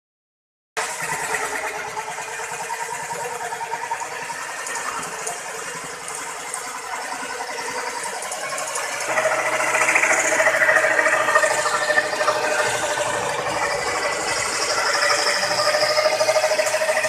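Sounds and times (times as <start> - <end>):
scroll saw cutting wood: 0.9 - 17.0.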